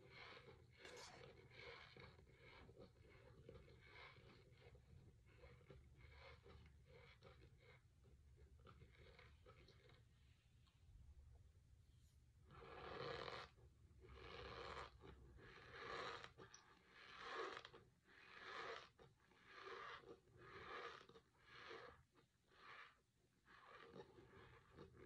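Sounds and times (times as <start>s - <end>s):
chewing dry cornstarch: 0.0s - 10.1s, 12.6s - 22.9s, 23.6s - 25.0s.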